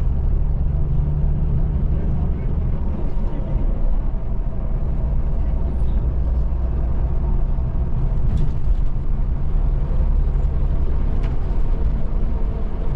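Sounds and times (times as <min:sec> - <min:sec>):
bus engine and road noise: 0:00.0 - 0:12.9.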